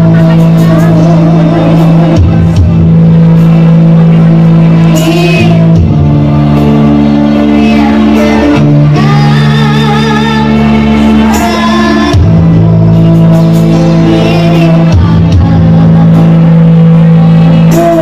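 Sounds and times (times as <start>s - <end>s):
girl singing into microphone: 0.0s - 2.8s, 4.7s - 18.0s
backing music: 0.0s - 18.0s.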